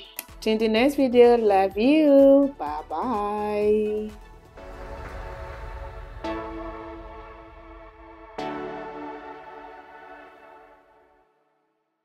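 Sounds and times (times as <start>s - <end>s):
soft background music chords: 0.0s - 11.4s.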